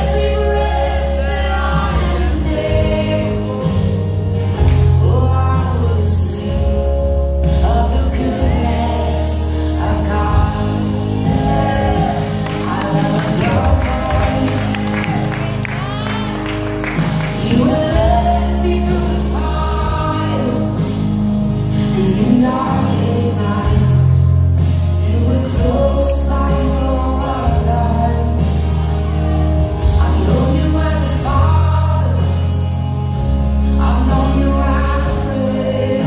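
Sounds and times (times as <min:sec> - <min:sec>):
held bass notes: 0:00.0 - 0:36.0
voices singing slow melody: 0:00.0 - 0:36.0.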